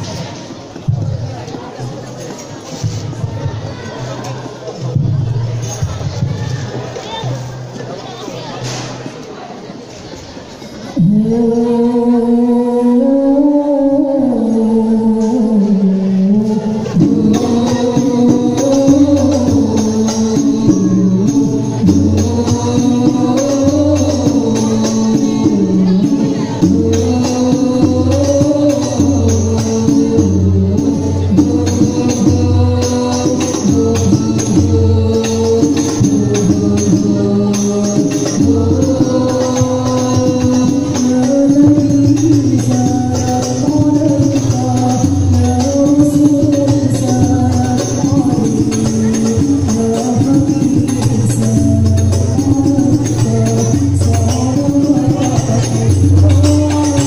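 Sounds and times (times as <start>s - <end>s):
frame drums beating: 0.0s - 9.8s, 16.4s - 57.0s
voices singing devotional melody: 0.0s - 57.0s.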